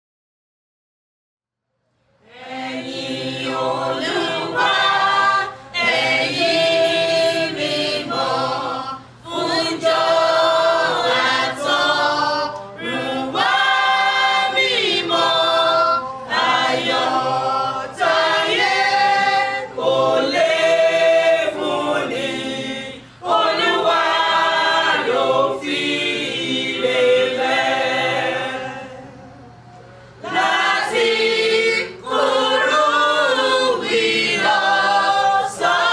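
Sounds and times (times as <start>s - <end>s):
mixed choir singing: 2.2s - 35.9s.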